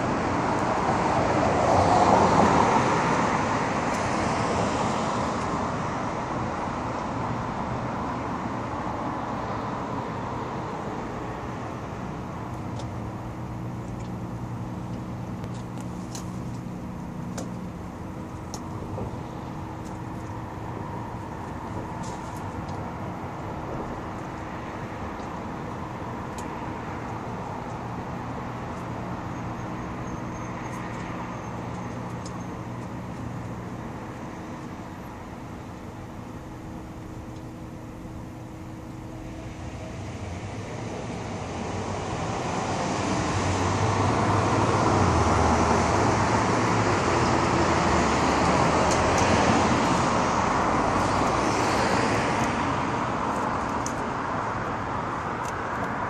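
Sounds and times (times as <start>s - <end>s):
vehicles passing close: 0.0s - 56.0s
engines idling: 2.2s - 56.0s.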